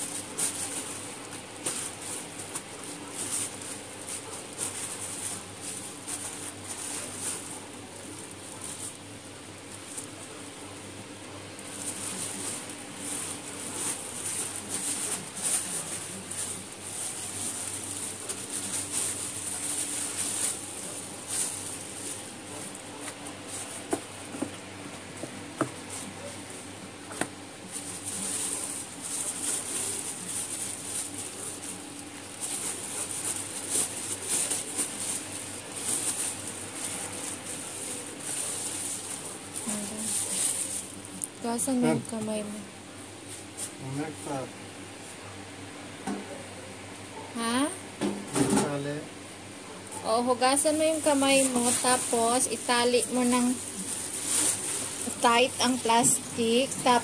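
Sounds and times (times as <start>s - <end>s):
plastic bag rustling: 0.0s - 42.6s, 50.0s - 57.0s.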